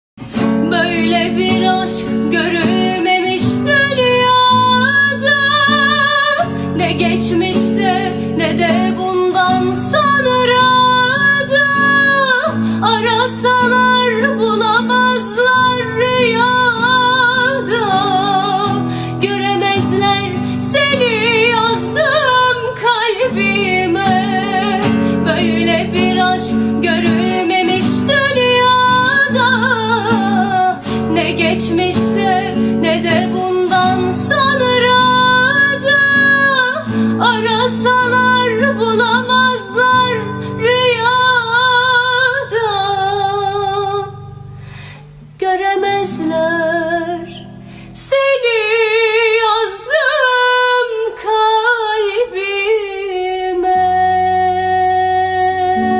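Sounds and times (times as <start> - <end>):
guitar accompaniment: 0.2 - 55.9
woman singing with vibrato: 0.4 - 44.6, 45.2 - 55.9.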